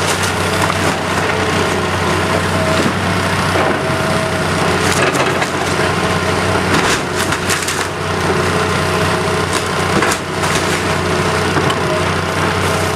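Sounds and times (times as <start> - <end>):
wood cracking and splintering: 0.0 - 11.9
demolition machine engine running: 0.0 - 12.9.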